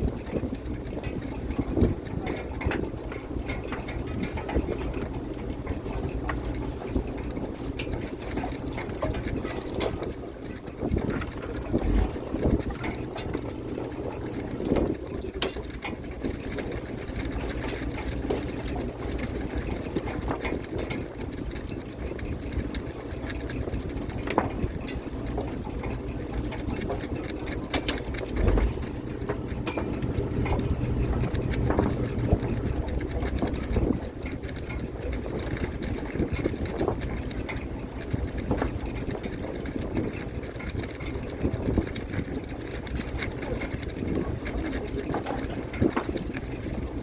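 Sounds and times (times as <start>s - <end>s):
boat machinery rattling: 0.0s - 47.0s.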